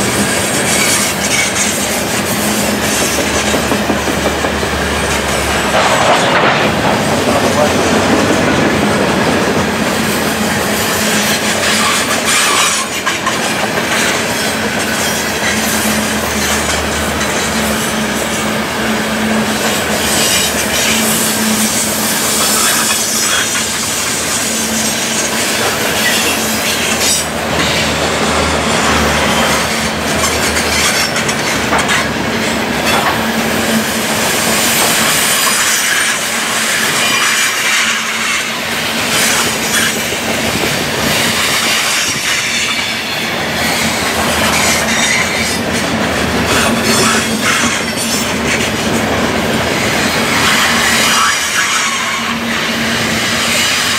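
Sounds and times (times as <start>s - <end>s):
train wheel squeal: 0.0s - 8.7s, 10.0s - 32.1s, 32.8s - 53.9s
train wheels rumbling on rails: 0.0s - 53.9s.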